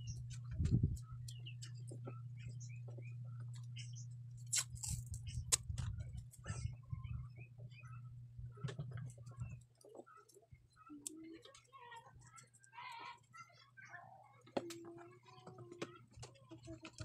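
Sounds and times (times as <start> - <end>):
steady low hum: 0.0 - 17.0
small clicks and ticks: 0.1 - 6.4, 8.6 - 13.8, 14.4 - 17.0.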